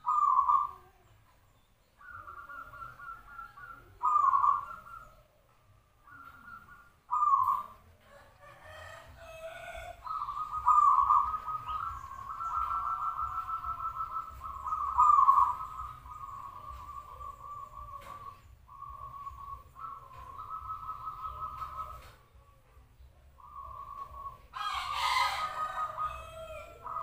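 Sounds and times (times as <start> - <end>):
dove cooing trill: 0.0 - 1.1, 2.0 - 22.7, 23.4 - 27.0.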